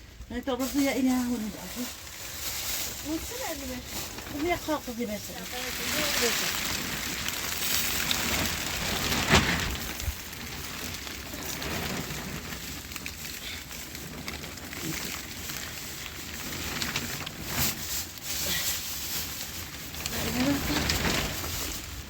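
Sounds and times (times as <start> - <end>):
rain patter: 0.0 - 22.0.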